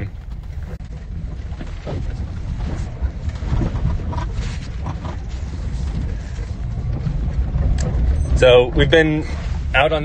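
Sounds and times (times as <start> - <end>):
knocks and rattles: 0.0 - 9.8
low road rumble inside truck: 0.0 - 10.0.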